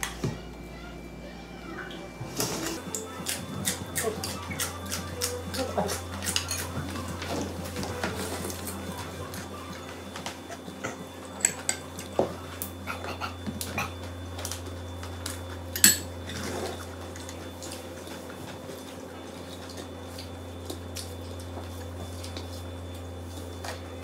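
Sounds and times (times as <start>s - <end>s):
steady low hum: 0.0s - 24.0s
rice mixed by hand: 2.2s - 24.0s.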